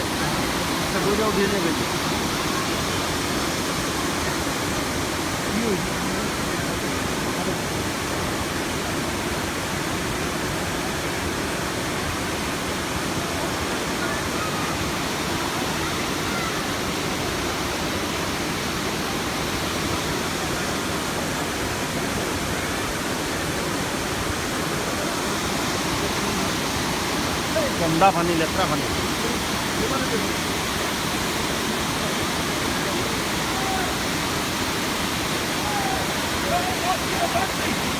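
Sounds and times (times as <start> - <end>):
waterfall roaring: 0.0 - 37.9.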